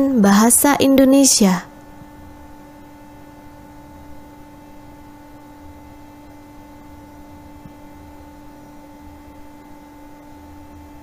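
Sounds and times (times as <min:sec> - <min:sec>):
two-tone electrical hum: 0:00.0 - 0:11.0.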